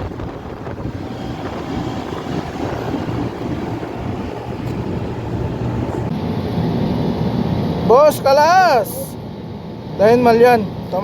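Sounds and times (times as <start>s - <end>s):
air conditioning unit humming: 0.0s - 11.0s.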